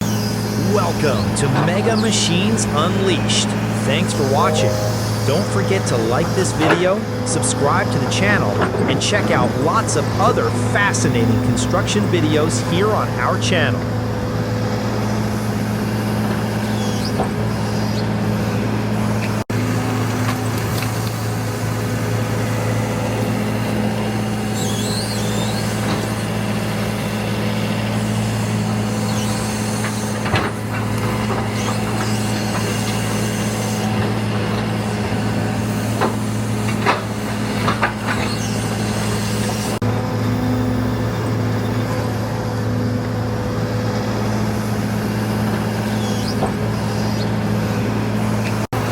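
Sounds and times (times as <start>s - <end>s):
diesel machinery droning: 0.0s - 48.9s.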